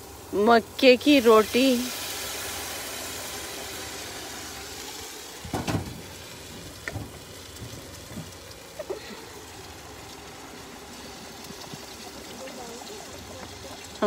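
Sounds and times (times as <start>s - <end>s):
batter sizzling in a wok: 0.0s - 14.0s.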